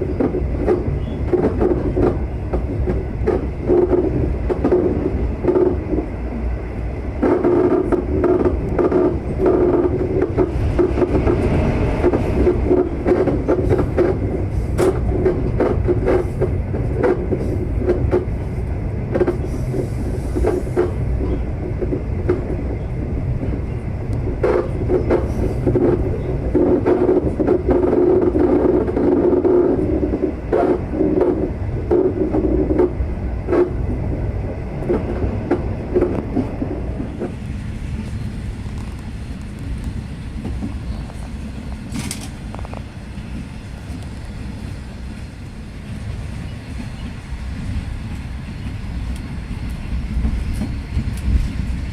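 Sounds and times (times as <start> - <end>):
track clicks and knocks: 0.0 - 44.3
train wheels rumbling on rails: 0.0 - 51.9.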